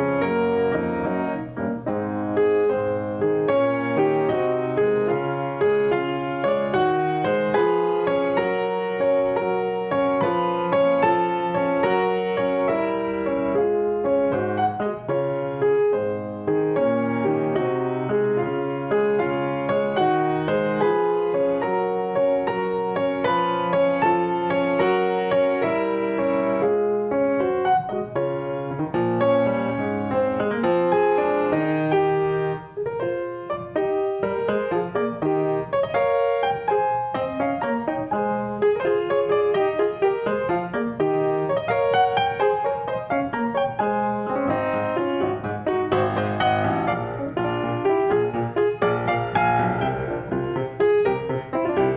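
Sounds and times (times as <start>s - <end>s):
piano playing: 0.0s - 51.9s.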